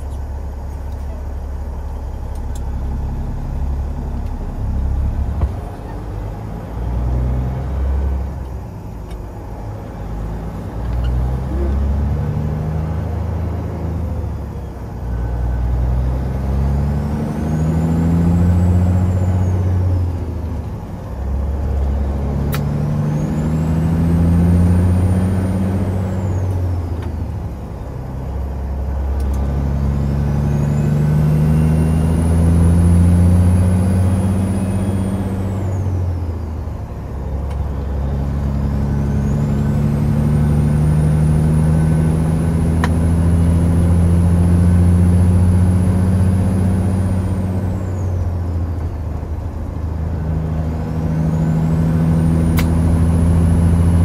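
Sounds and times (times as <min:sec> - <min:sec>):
truck diesel engine pulling through gears: 0:00.0 - 0:54.0.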